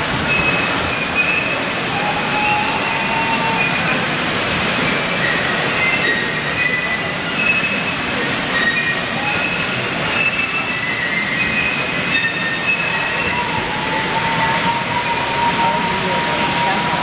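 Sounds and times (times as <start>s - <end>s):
model train rolling: 0.0s - 17.0s
steady background noise: 0.0s - 17.0s
wheels squealing: 0.0s - 17.0s.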